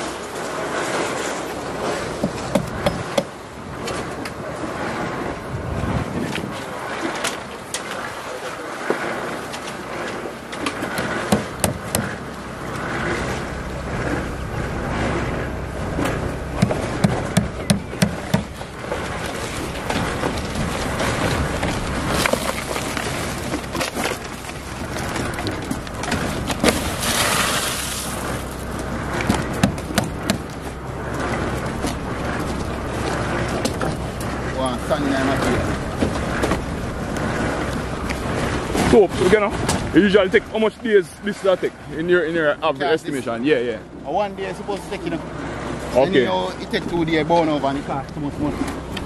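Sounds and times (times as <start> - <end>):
wheelbarrow on wet concrete: 0.0 - 5.3, 5.9 - 42.1.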